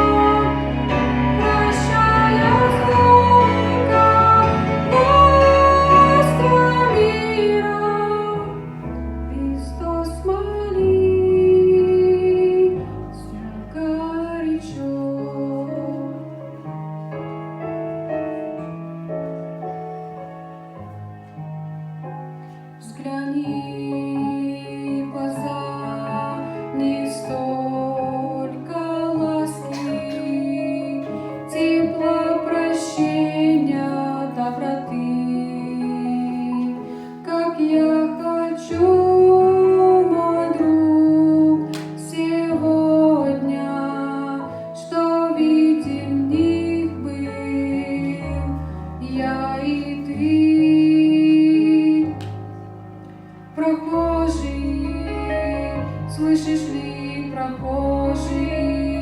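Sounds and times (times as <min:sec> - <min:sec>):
slow devotional song: 0:00.0 - 0:59.0.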